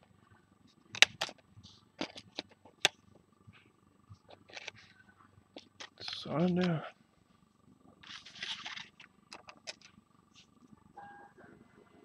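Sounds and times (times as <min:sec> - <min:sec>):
faint handling rustle: 0:00.6 - 0:10.7.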